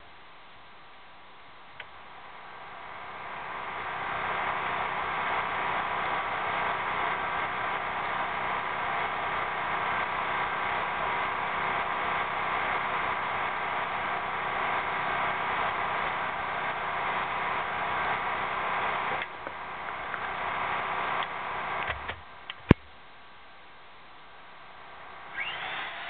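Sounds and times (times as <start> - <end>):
machine hum: 1.2 - 26.0.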